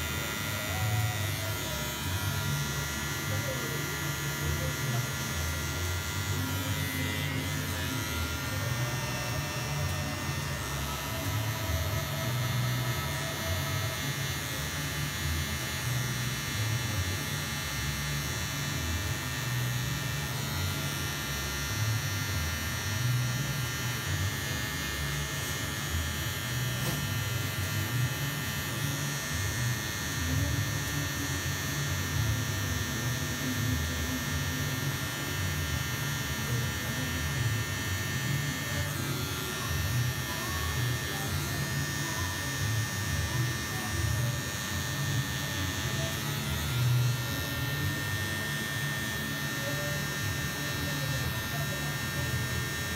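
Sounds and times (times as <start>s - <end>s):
electric hair clippers buzzing: 0.0s - 52.9s.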